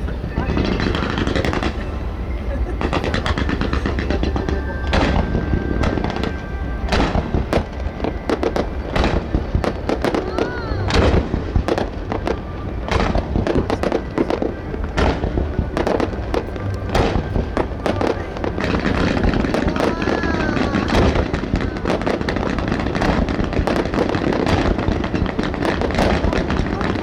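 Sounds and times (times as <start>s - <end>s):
firework shells bursting: 0.0s - 27.0s
fireworks crackling and rumble: 0.0s - 27.0s.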